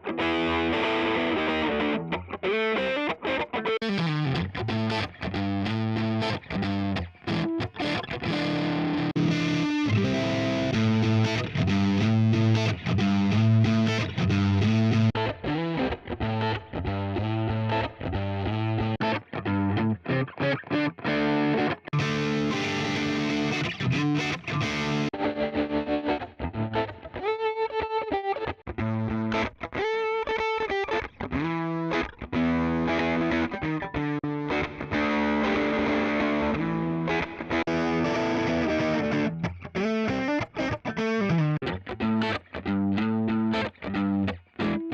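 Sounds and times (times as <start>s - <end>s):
distorted electric guitar riffs: 0.0s - 44.9s.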